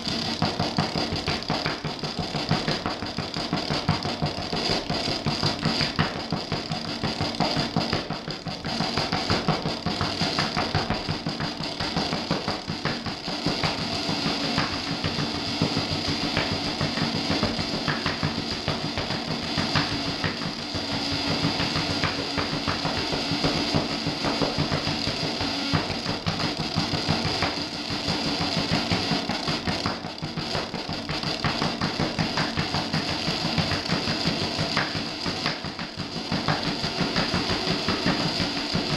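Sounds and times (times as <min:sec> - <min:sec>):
electronic noise music: 0:00.0 - 0:38.9.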